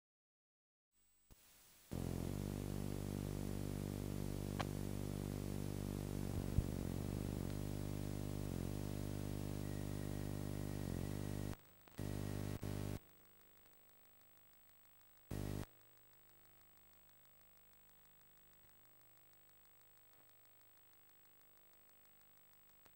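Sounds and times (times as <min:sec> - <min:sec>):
tape hiss: 0:01.0 - 0:22.9
electrical hum: 0:01.3 - 0:22.9.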